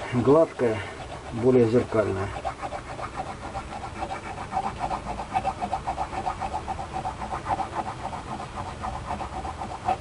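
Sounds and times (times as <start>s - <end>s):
needle file rasping on steel: 0.0s - 10.0s.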